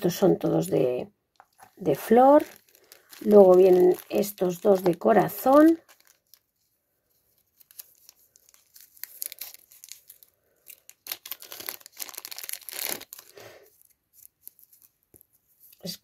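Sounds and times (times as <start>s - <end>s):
plastic bag crinkling: 1.4s - 15.1s.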